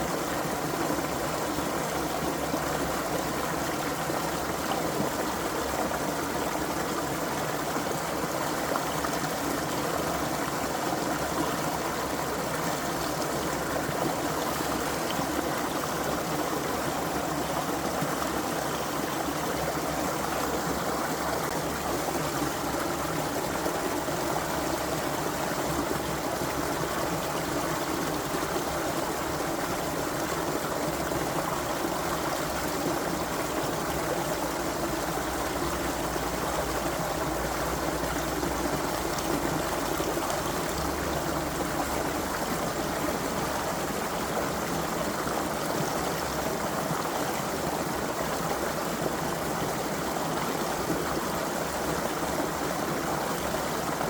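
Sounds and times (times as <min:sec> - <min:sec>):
creek water running over stones: 0:00.0 - 0:54.0.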